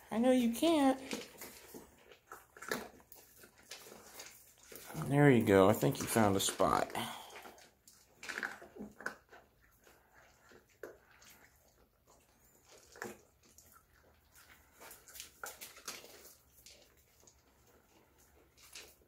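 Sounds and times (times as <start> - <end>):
puppies smacking and chewing: 0.0 - 19.0.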